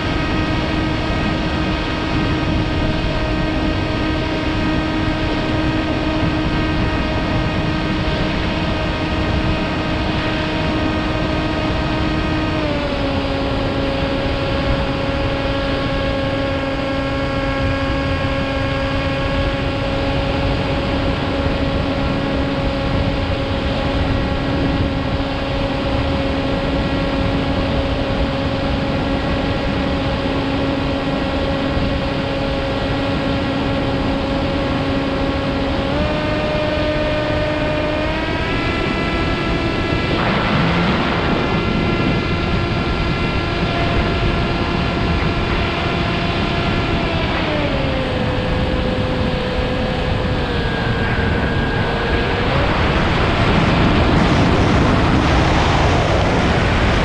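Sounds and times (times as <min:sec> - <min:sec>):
model airplane motor and propeller: 0:00.0 - 0:57.0
wind rush: 0:00.0 - 0:57.0.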